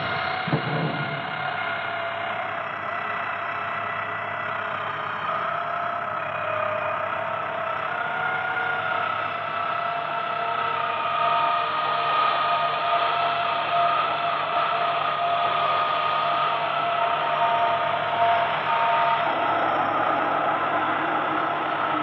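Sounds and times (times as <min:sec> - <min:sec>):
held droning tones: 0:00.0 - 0:22.0.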